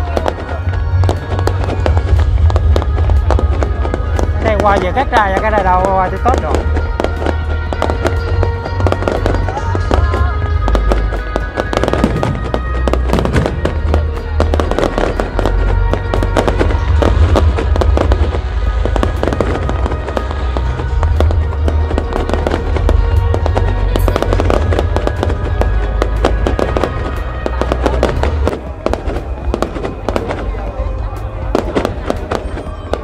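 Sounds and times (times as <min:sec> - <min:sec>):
deep rumble: 0:00.0 - 0:33.0
fireworks bangs and crackles: 0:00.0 - 0:33.0
loud music: 0:00.0 - 0:33.0.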